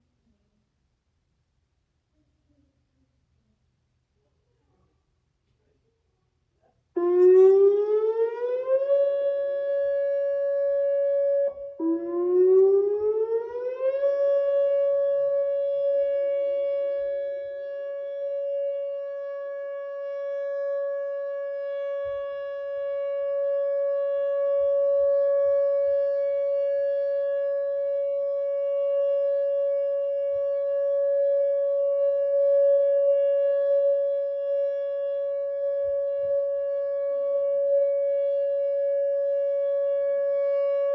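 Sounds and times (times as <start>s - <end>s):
electronic warning siren wailing: 7.0s - 40.9s.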